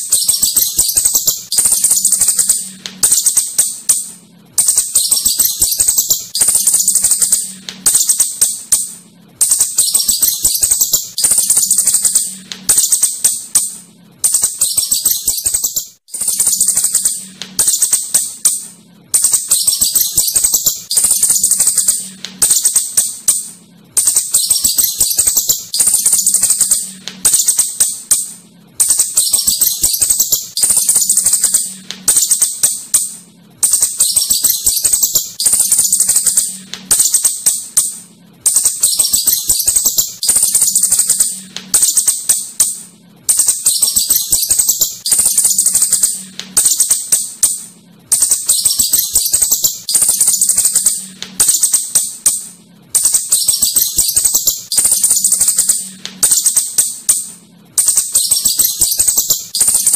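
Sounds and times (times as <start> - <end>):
shrew high-pitched rattling squeaks: 0.0 - 59.9.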